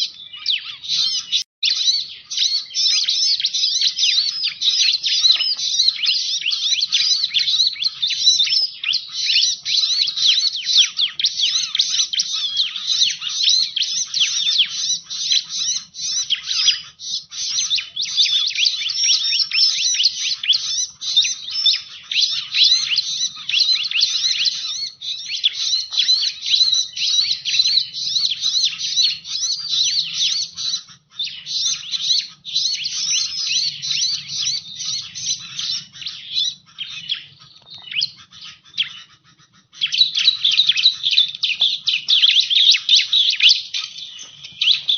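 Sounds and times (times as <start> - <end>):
bird rapid high chirps: 0.0 - 44.9.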